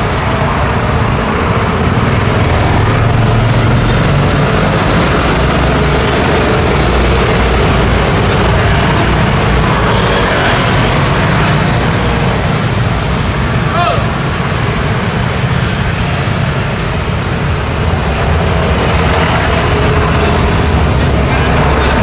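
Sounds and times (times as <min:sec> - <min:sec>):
motorbikes and cars passing: 0:00.0 - 0:22.0.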